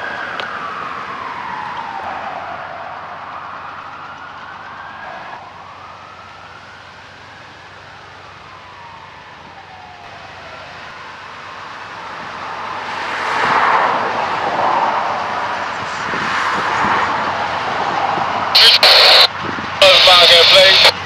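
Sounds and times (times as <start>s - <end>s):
distant siren wailing: 0.0s - 21.0s.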